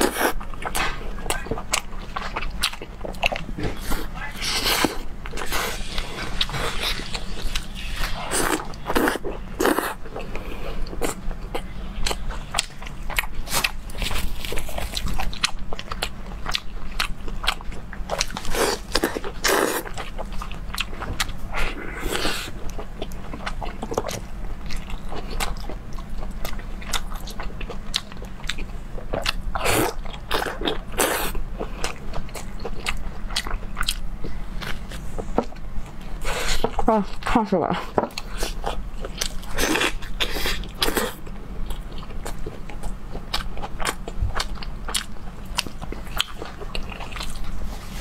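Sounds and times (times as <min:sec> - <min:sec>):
crunchy biting and chewing: 0:00.0 - 0:37.2, 0:38.1 - 0:48.0.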